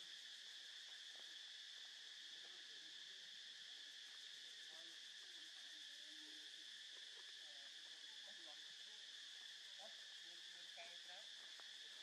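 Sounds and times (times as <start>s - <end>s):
insect chorus droning: 0.0s - 12.0s.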